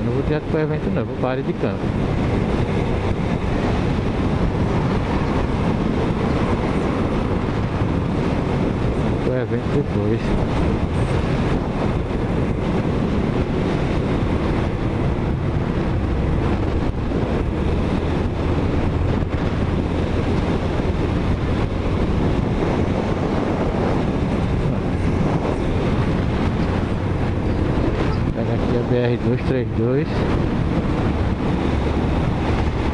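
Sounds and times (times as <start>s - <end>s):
motorcycle engine drone: 0.0s - 32.9s
road noise: 0.0s - 32.9s
wind on microphone: 0.0s - 32.9s.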